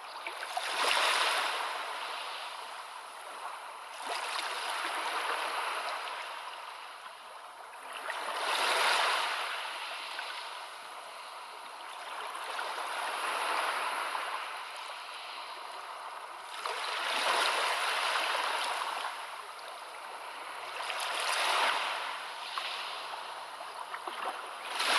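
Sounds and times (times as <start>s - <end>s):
sea waves washing on shore: 0.3s - 7.0s, 7.8s - 24.9s.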